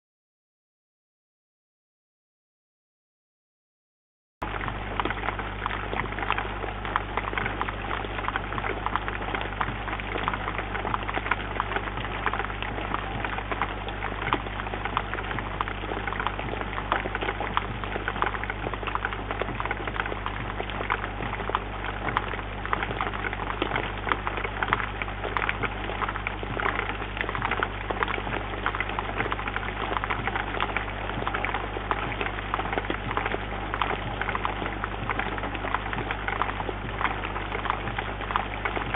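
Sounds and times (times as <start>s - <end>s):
low electrical hum: 4.4s - 38.9s
steady rain patter: 4.4s - 38.9s.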